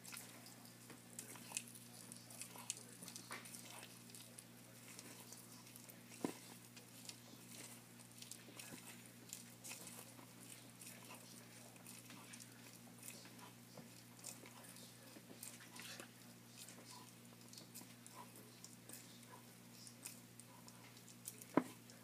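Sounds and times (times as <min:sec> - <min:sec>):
tortoise chewing crunches: 0:00.0 - 0:22.0.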